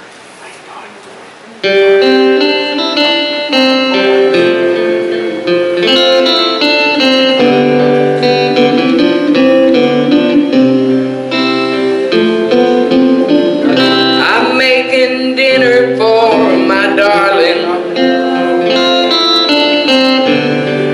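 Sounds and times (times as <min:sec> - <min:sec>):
guitar: 0:01.4 - 0:20.9
piano: 0:01.7 - 0:20.9.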